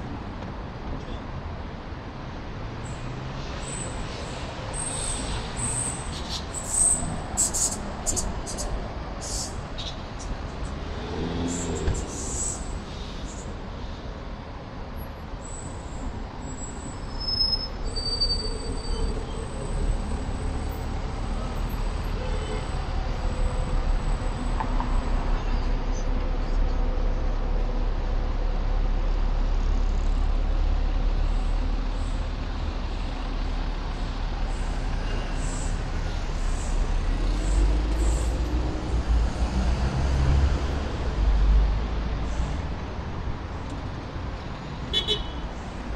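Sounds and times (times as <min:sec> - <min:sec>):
passing vehicles rumble: 0:00.0 - 0:45.9.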